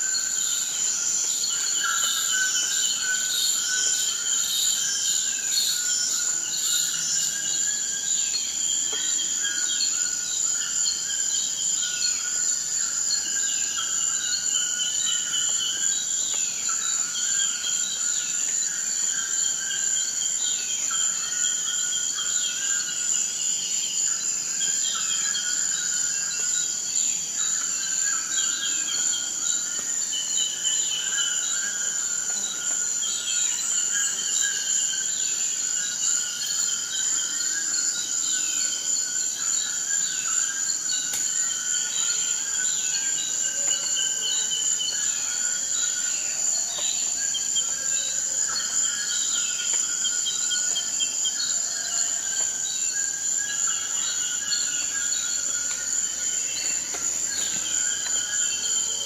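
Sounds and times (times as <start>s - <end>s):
high-pitched insect trill: 0.0s - 59.0s.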